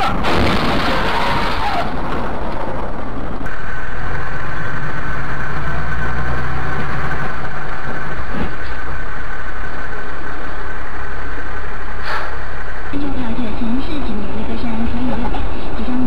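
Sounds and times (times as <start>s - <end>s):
loud rush of noise: 0.0s - 14.5s
vehicle engine droning: 0.0s - 16.0s
thin steady whine: 2.2s - 16.0s.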